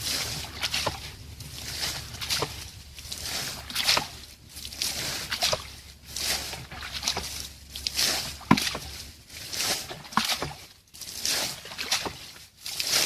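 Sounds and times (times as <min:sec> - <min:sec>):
water splashing from bucket: 0:00.0 - 0:13.0.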